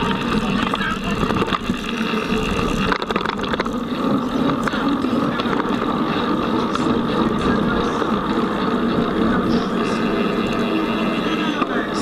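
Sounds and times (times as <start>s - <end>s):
bike rattles and knocks: 0.0s - 12.0s
bike tyres rolling: 0.0s - 12.0s.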